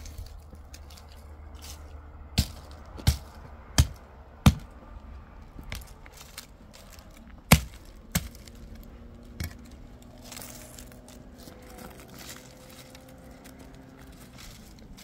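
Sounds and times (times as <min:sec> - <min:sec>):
dry sticks snapping: 0:00.0 - 0:15.0.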